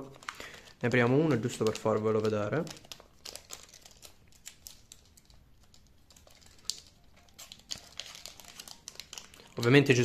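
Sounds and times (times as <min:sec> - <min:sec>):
plastic packet crinkling and clicking: 0:00.0 - 0:10.0.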